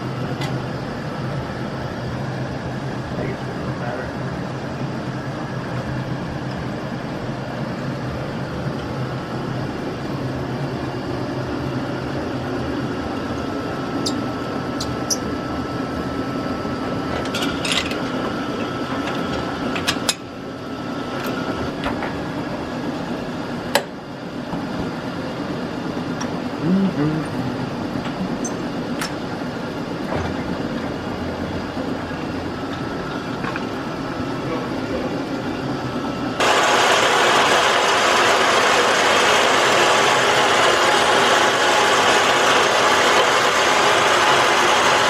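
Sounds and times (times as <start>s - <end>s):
machine humming: 0.0s - 45.0s.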